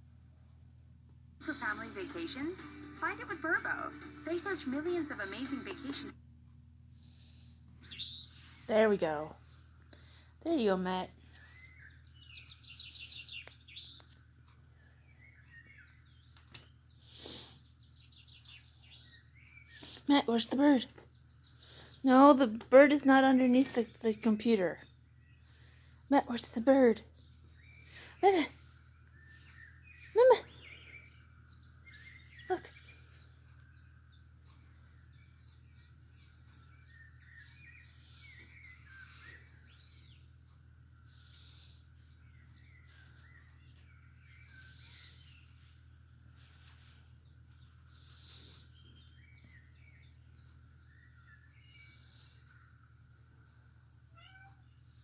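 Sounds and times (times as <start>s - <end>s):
birdsong through computer speakers: 1.4s - 55.0s.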